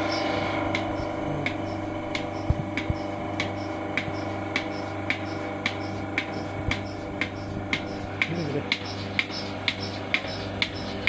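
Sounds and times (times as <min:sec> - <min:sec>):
pulsator clicking: 0:00.0 - 0:11.0
vacuum pump hum: 0:00.0 - 0:11.0.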